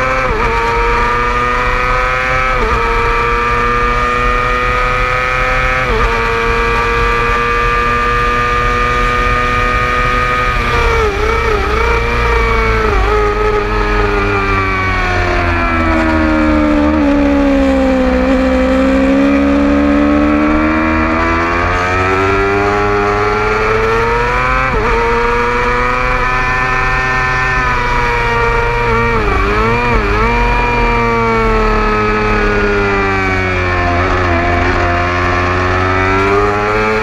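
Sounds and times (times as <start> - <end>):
motorcycle engine at high revs: 0.0 - 37.0.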